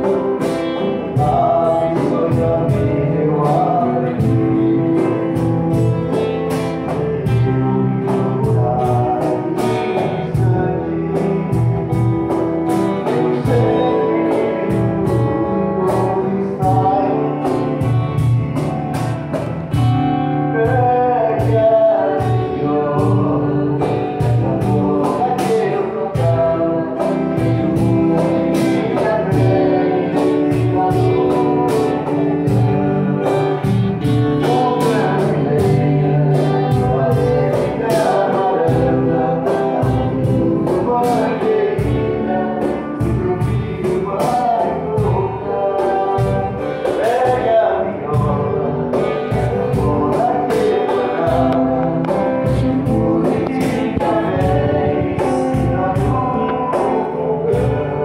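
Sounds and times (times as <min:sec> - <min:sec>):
hand percussion: 0:00.0 - 0:58.0
strummed acoustic guitars: 0:00.0 - 0:58.0
voices singing: 0:00.0 - 0:58.0.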